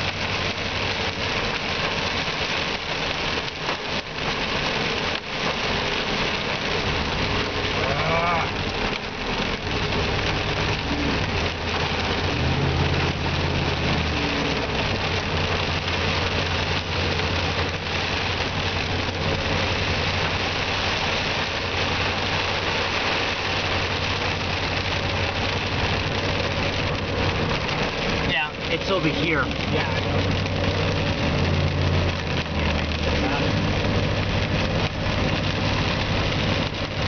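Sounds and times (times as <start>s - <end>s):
rain: 0.0s - 37.0s
tyres on wet road: 0.0s - 37.0s.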